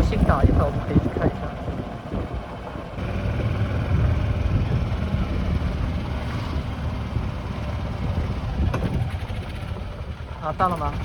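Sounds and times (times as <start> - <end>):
golf cart engine rumble: 0.0 - 11.0
wind on microphone: 0.0 - 11.0.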